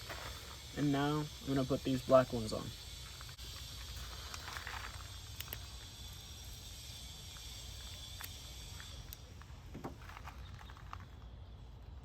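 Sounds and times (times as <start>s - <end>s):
faint background hum and hiss: 0.0s - 12.0s.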